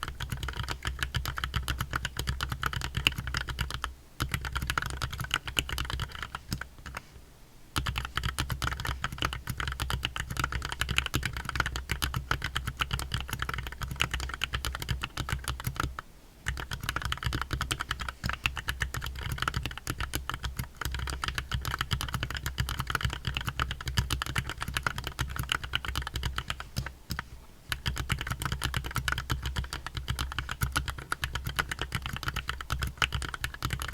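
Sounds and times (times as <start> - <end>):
mechanical keyboard typing: 0.0 - 7.0, 7.8 - 33.9.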